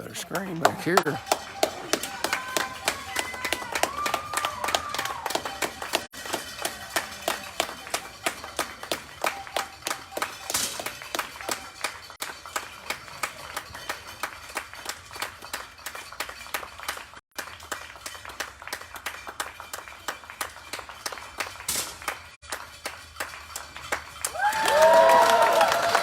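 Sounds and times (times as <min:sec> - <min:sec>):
spectators clapping: 0:00.0 - 0:26.0.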